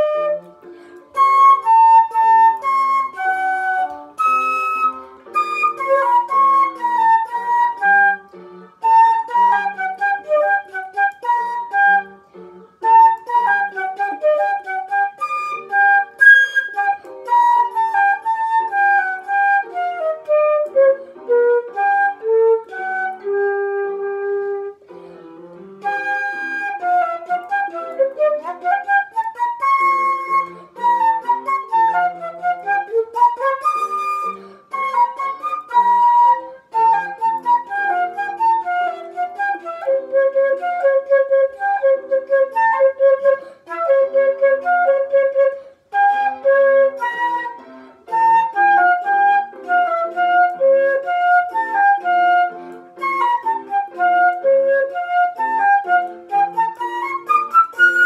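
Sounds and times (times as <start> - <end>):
flute playing classical melody: 0.0 - 58.0
lower accompaniment: 0.0 - 58.0.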